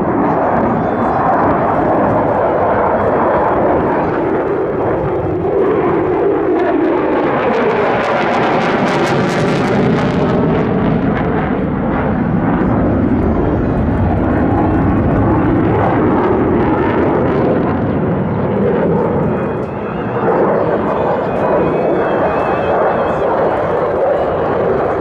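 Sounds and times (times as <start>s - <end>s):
jet engine crackle: 0.0s - 25.0s
jet engine roaring overhead: 0.0s - 25.0s.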